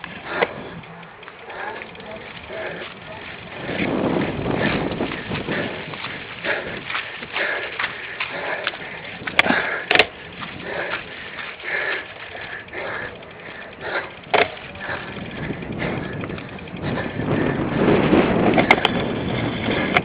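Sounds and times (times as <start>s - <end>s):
bicycle frame rattle: 0.0s - 20.0s
bicycle tyre noise on rough ground: 0.0s - 20.0s
sharp clacks from bumps: 0.0s - 20.0s.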